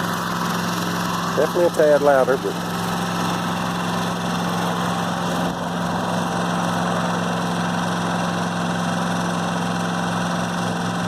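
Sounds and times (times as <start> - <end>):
generator running: 0.0 - 11.0.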